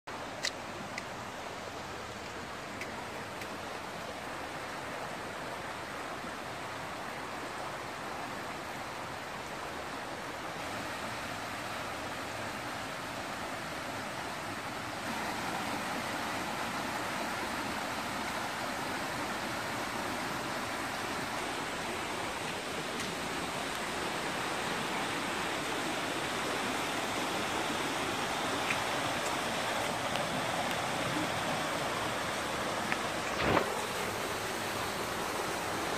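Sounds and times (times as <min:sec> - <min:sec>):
water rushing in rocky stream: 0:00.1 - 0:35.9.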